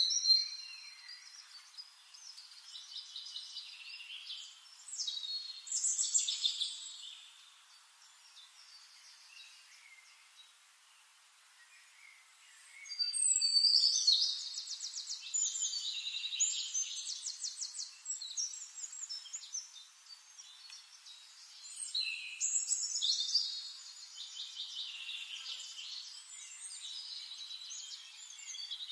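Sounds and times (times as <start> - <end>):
songbird trilling and chirping: 0.0 - 10.3, 12.0 - 28.9.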